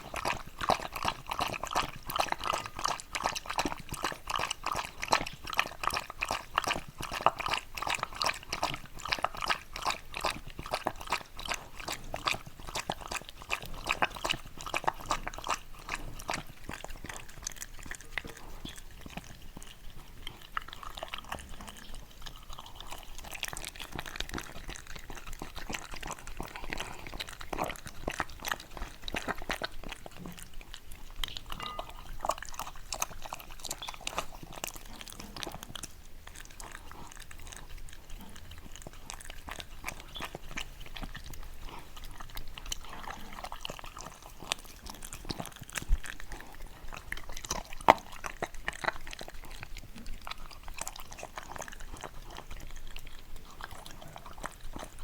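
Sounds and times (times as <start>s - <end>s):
dog chewing and crunching food: 0.0s - 55.0s.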